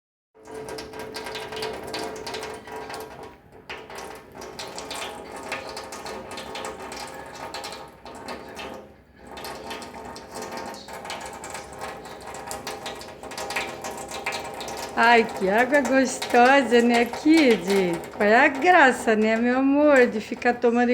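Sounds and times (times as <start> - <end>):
cat drinking water: 0.4 - 20.7
tap water running into sink: 0.4 - 20.9.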